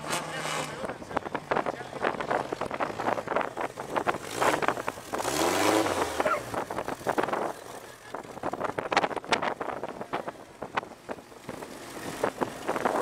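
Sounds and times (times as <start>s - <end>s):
dune buggy engine revving: 0.0s - 13.0s.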